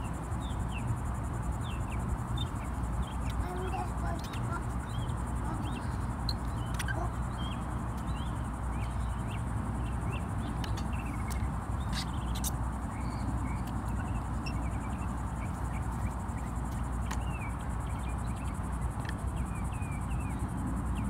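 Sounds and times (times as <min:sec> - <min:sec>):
faint chirps: 0:00.0 - 0:21.0
insects trilling: 0:00.0 - 0:21.0.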